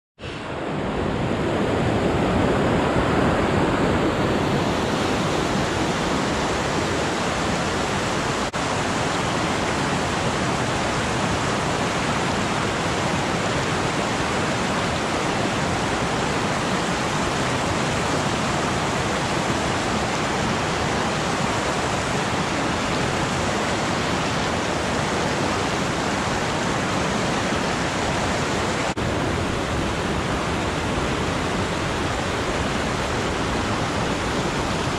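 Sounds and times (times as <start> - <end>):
creek rushing over boulders: 0.2 - 34.9.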